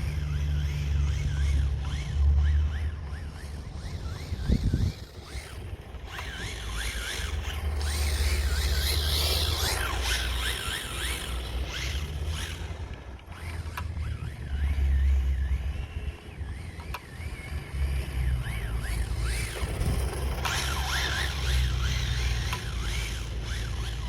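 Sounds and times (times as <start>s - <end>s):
toy car motor whining: 0.0s - 24.0s.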